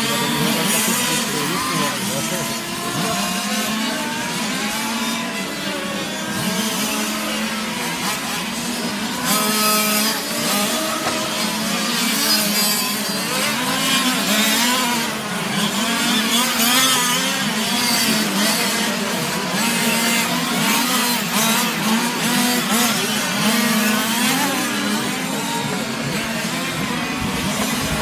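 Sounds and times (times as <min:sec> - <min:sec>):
small two-stroke engines buzzing: 0:00.0 - 0:28.0.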